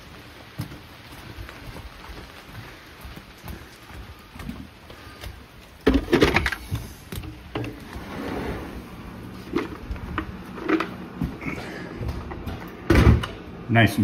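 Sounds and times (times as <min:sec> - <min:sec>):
footsteps on wood: 0:00.0 - 0:12.8.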